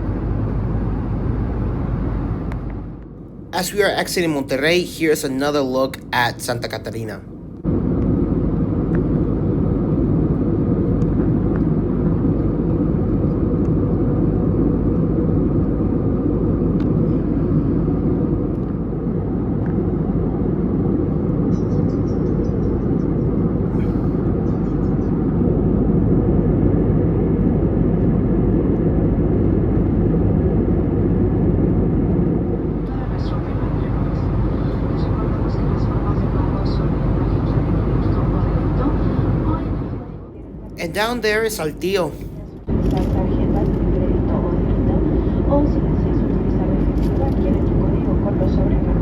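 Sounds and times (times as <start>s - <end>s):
jet engines and airflow roar: 0.0s - 49.0s.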